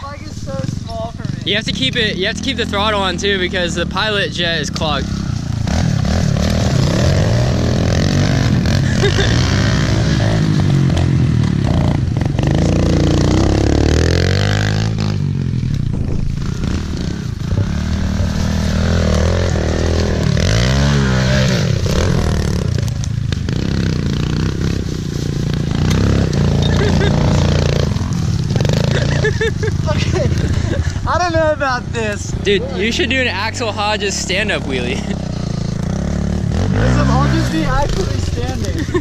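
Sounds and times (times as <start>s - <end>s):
small motorcycle engine revving: 0.4s - 39.0s.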